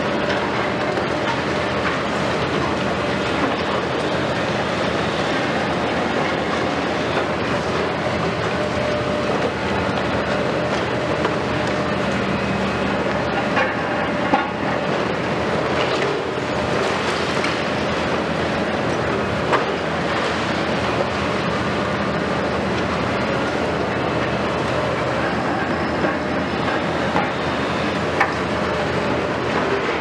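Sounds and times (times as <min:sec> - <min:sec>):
diesel engine drone: 0:00.0 - 0:30.0.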